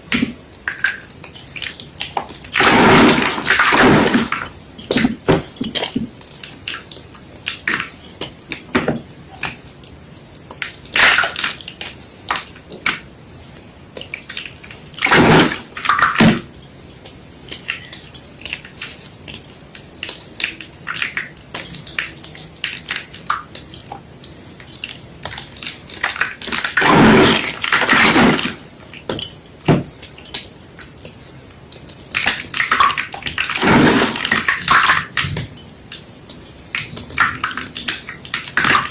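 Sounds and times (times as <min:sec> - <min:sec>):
water sounds: 0:00.0 - 0:38.9.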